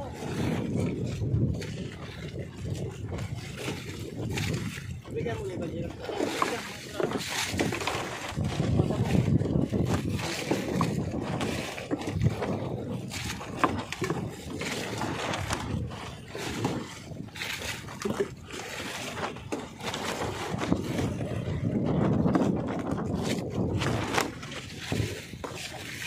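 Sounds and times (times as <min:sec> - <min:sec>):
water slapping boat hull: 0:00.0 - 0:26.0.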